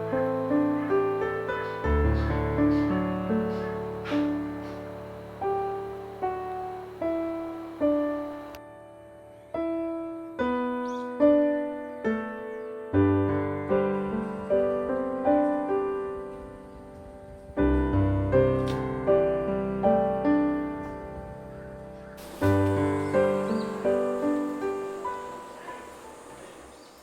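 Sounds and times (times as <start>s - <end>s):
slow solo piano melody: 0.0s - 26.2s.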